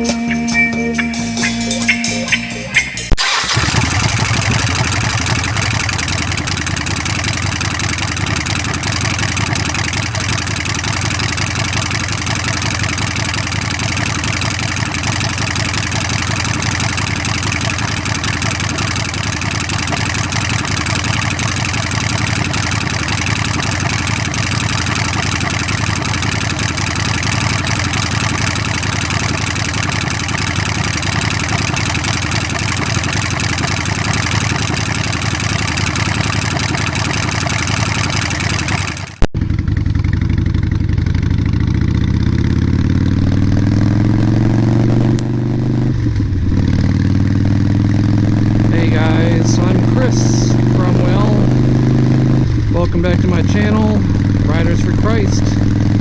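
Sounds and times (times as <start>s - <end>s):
motorcycle engine running: 2.7s - 56.0s.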